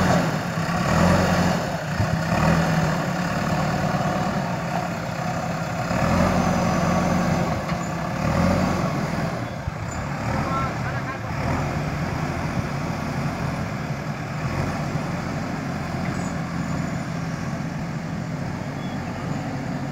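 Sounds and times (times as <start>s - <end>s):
diesel engine working under load: 0.0s - 19.9s.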